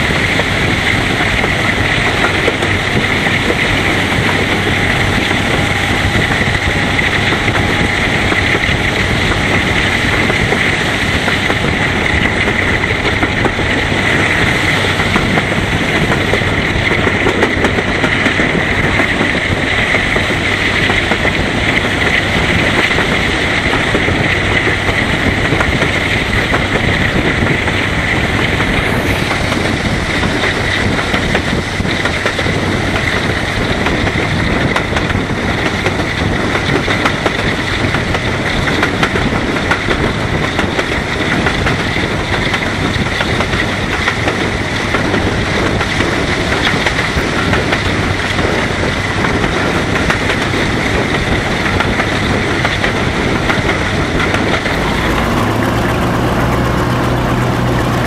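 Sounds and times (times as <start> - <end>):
diesel locomotive working: 0.0 - 58.0
train wheel and rail noise: 0.0 - 58.0.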